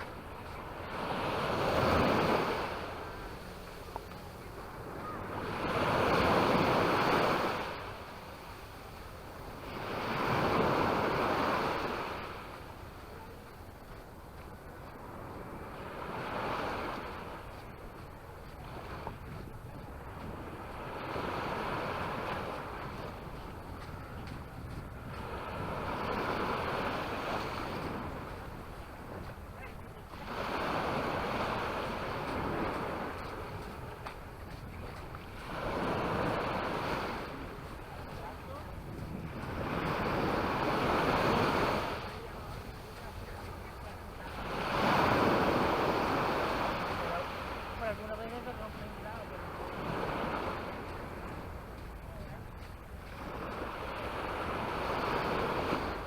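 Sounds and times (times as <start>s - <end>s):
waves washing up a beach: 0.0s - 56.0s
wind buffeting microphone: 0.0s - 56.0s.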